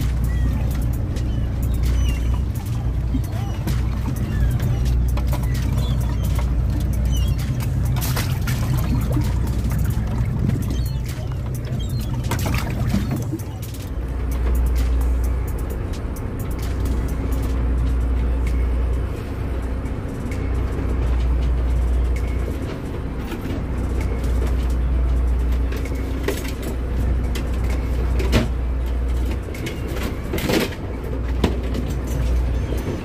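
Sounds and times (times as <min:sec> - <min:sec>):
boat engine rumble: 0:00.0 - 0:33.0.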